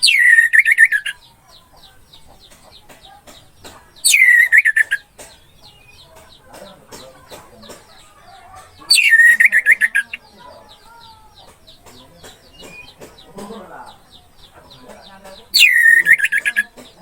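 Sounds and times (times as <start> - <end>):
other birds chirping: 0.0 - 17.0.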